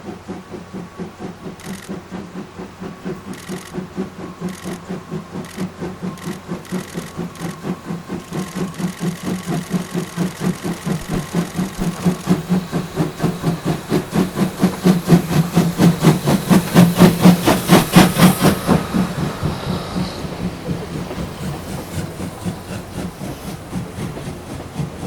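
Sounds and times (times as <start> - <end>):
steam locomotive chuffing: 0.0 - 25.0.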